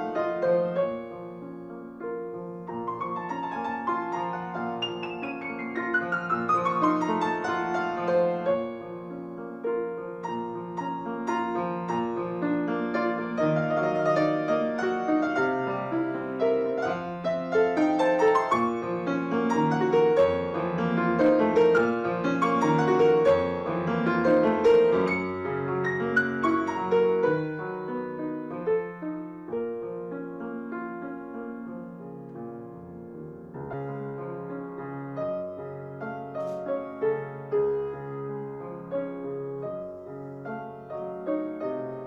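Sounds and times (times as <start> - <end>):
solo piano melody: 0.0 - 42.0.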